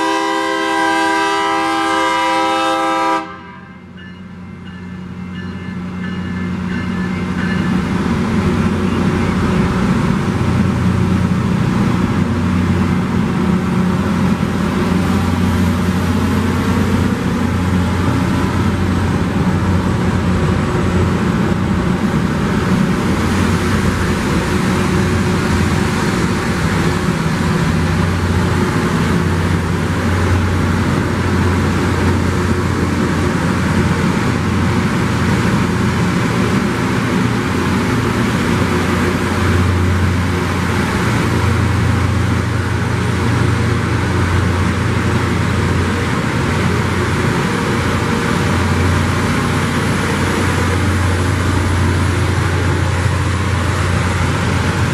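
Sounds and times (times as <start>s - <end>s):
rail grinder train passing: 0.0s - 54.9s.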